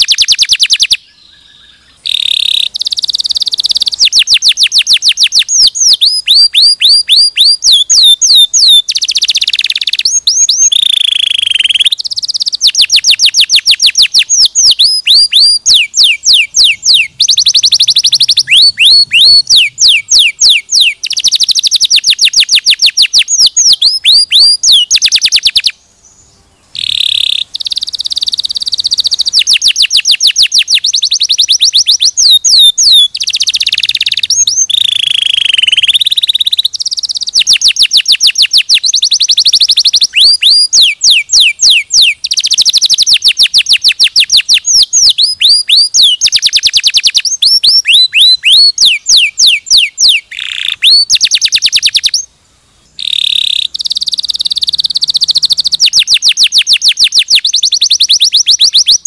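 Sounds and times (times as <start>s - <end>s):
canary singing: 0.0s - 25.8s, 26.7s - 52.3s, 53.0s - 59.0s.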